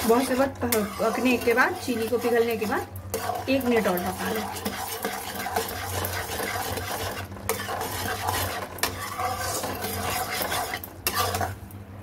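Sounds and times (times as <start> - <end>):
bubbling syrup crackle: 0.0 - 11.6
metal spatula scraping pan: 0.0 - 11.6.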